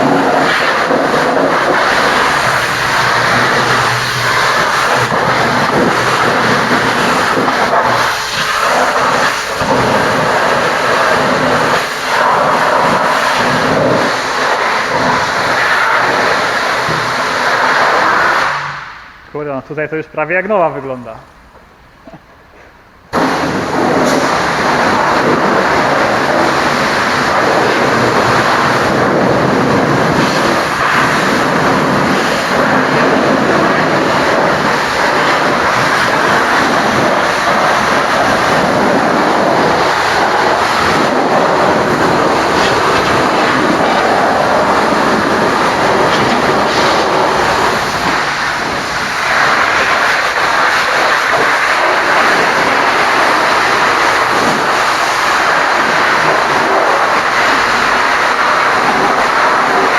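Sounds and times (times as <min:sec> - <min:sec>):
pressure washer spraying water: 0:00.0 - 0:19.2, 0:23.1 - 0:59.9.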